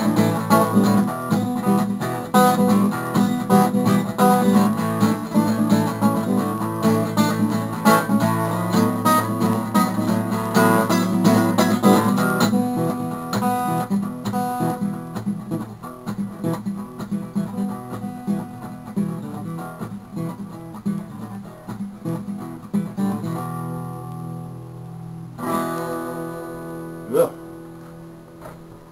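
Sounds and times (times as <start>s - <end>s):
acoustic guitar strumming: 0.0s - 28.9s.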